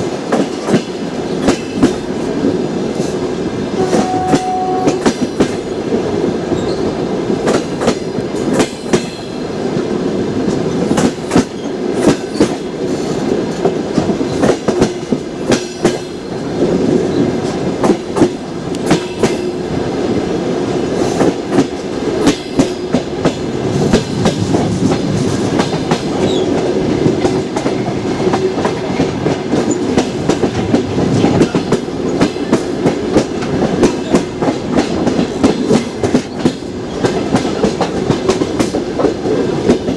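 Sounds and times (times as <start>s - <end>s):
train wheels clacking over rail joints: 0.0s - 3.4s, 6.5s - 39.9s
train rumble and hum: 0.0s - 39.9s.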